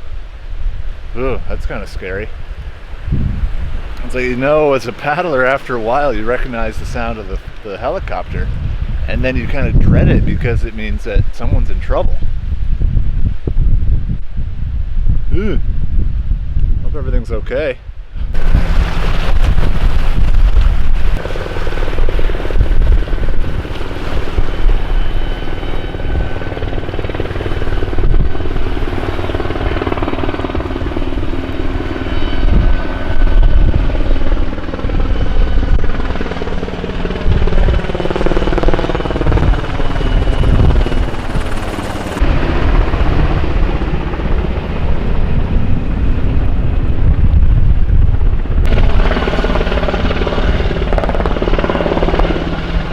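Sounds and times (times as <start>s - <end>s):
turbine whine: 0.0s - 52.9s
helicopter rotor chop: 3.6s - 12.2s, 18.3s - 52.9s.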